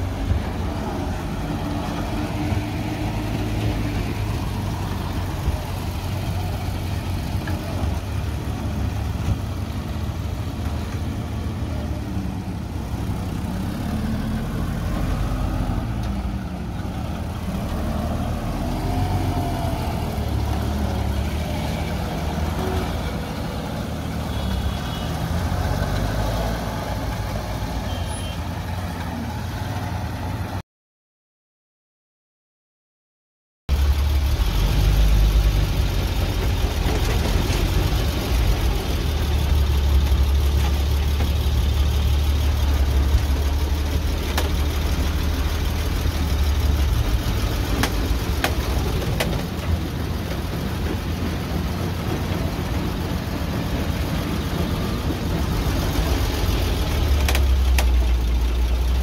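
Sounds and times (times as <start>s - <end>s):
truck diesel engine running: 0.0s - 24.3s, 33.7s - 59.0s.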